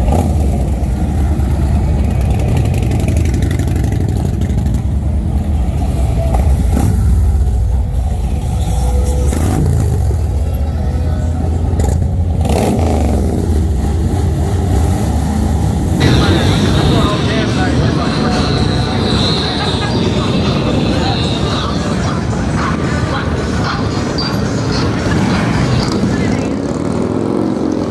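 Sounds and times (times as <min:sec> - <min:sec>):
motorcycle engines revving: 0:00.0 - 0:27.9.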